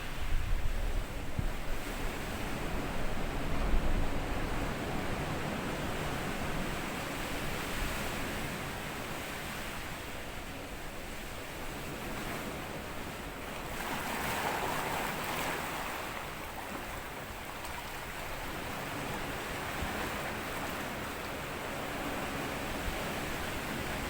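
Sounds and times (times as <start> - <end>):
small waves washing on sand: 1.7 - 24.0.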